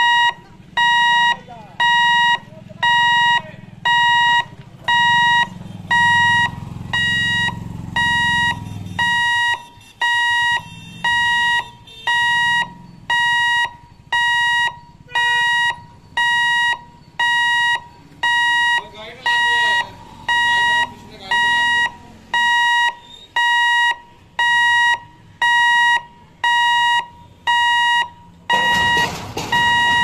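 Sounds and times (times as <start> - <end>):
level-crossing hooter beeping: 0.0 - 30.0.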